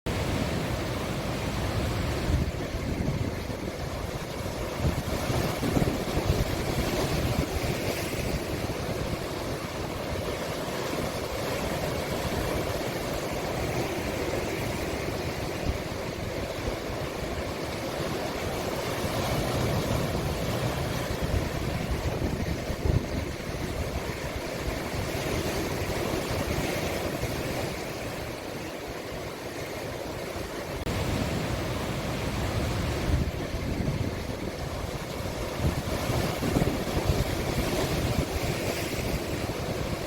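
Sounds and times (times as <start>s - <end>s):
sea waves breaking on shore: 0.1s - 40.0s.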